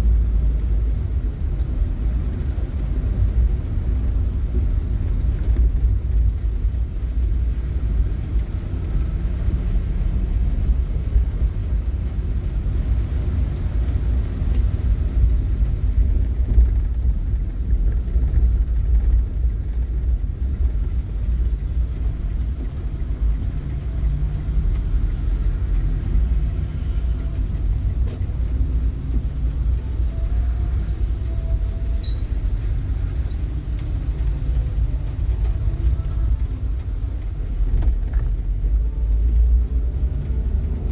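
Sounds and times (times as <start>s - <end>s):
faint engine hum: 0.0s - 40.9s
low rumble: 0.0s - 40.9s.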